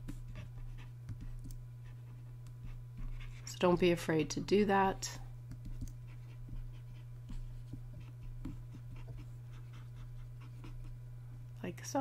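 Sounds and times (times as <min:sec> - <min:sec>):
stylus scratching and tapping tablet: 0:00.0 - 0:04.6, 0:05.4 - 0:11.0
low electrical hum: 0:00.0 - 0:12.0.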